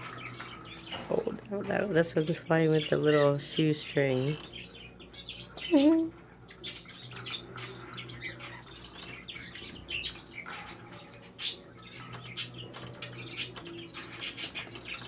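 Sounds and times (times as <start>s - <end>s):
budgies chattering and chirping: 0.0s - 15.0s.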